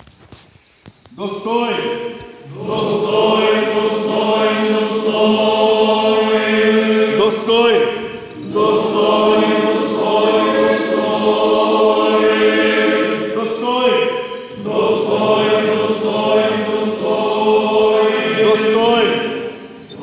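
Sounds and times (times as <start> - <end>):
voices chanting long notes: 1.9 - 20.0.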